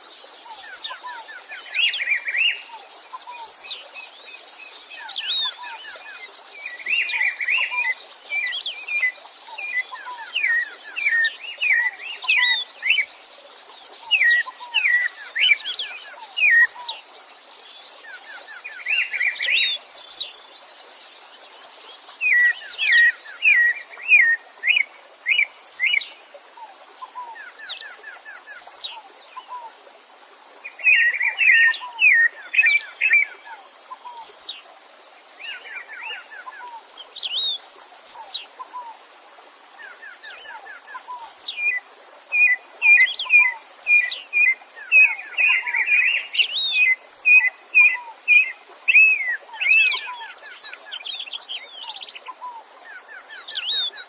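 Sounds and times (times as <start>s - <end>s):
songbirds chirping and trilling: 0.0s - 29.9s, 30.6s - 54.0s.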